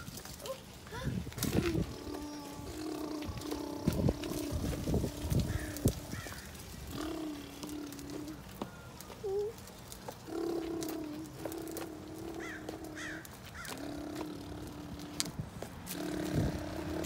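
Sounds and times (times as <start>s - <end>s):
toddler making engine noises: 0.4s - 8.4s, 9.2s - 9.6s, 10.2s - 17.0s.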